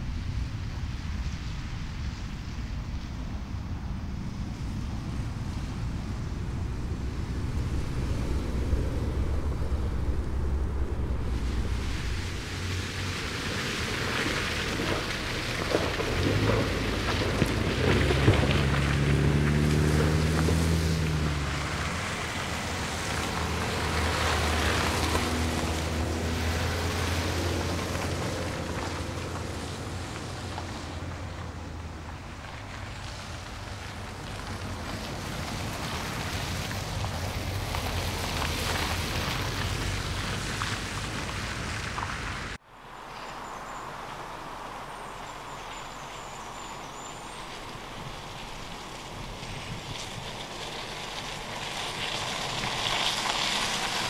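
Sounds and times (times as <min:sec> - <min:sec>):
tyres churning through mud: 0:04.2 - 0:54.0
car engine: 0:04.3 - 0:54.0
mud and grit pattering: 0:05.0 - 0:42.6, 0:43.2 - 0:54.0.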